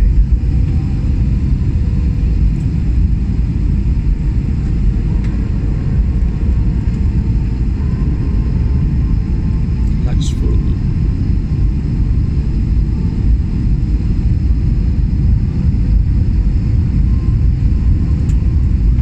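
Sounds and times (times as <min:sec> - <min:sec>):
jet engines and airflow rumble: 0:00.0 - 0:19.0.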